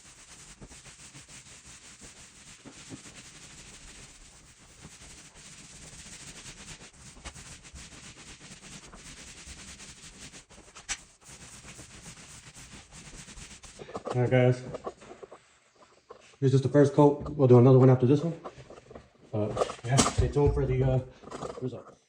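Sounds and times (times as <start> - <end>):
roller rubbing on floor: 0.0 - 17.0, 18.0 - 21.6.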